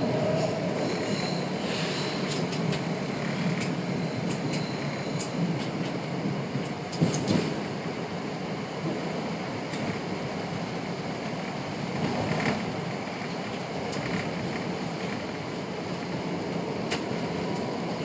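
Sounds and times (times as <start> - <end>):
train rolling rumble: 0.0 - 18.0.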